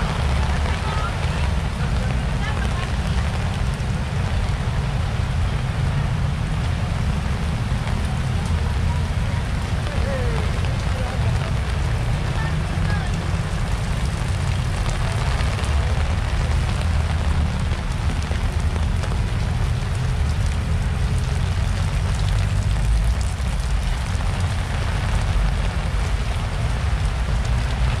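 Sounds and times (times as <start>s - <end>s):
heavy rain on umbrellas and tarpaulin: 0.0s - 28.0s.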